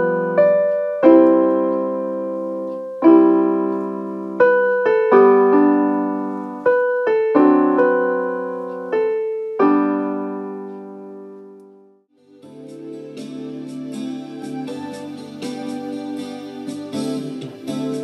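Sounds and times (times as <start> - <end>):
solo digital piano: 0.0 - 18.0.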